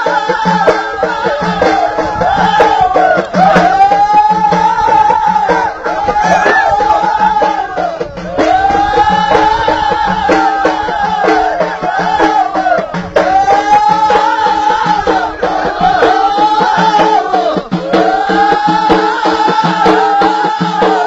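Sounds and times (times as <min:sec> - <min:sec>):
frame drums beating: 0:00.0 - 0:21.0
voices singing: 0:00.0 - 0:21.0.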